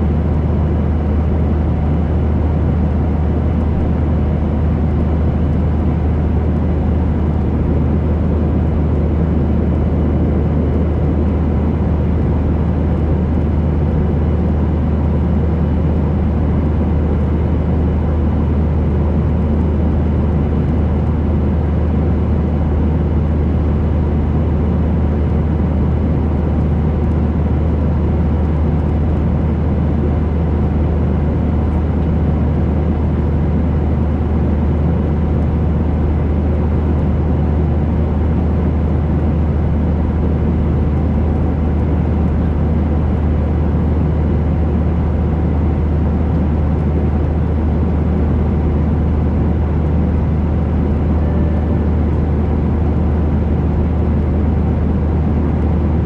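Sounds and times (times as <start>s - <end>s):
airliner engines and airflow rumble: 0.0s - 56.0s.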